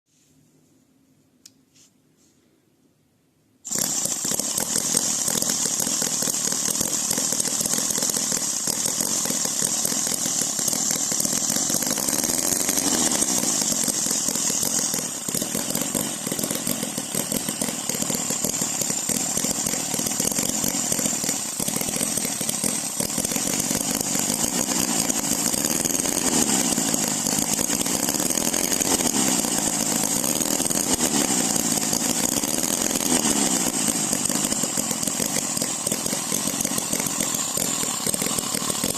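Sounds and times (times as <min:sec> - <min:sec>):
model engine rasping buzz: 0:03.7 - 0:38.9.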